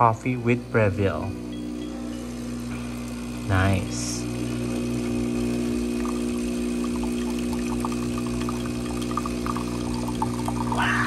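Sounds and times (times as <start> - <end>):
espresso machine pump humming: 0.0 - 11.0
espresso streaming into a mug: 0.8 - 11.0.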